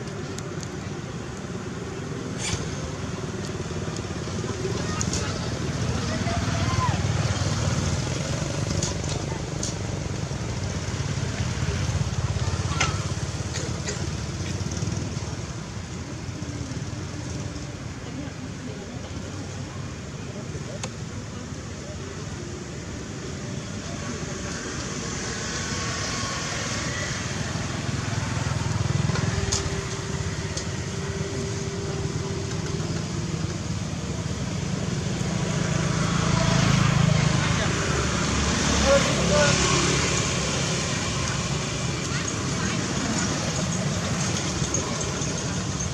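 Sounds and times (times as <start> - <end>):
motor engine rumbling: 0.0 - 45.9.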